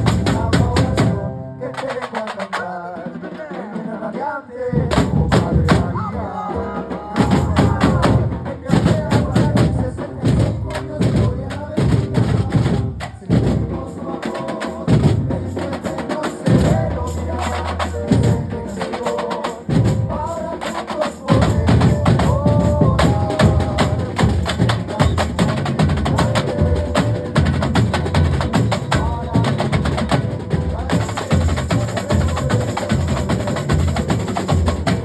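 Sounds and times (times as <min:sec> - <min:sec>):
bass drums: 0:00.0 - 0:01.4, 0:04.8 - 0:14.1, 0:14.8 - 0:19.0, 0:19.6 - 0:20.6, 0:21.3 - 0:35.0
snare drums: 0:00.0 - 0:35.0.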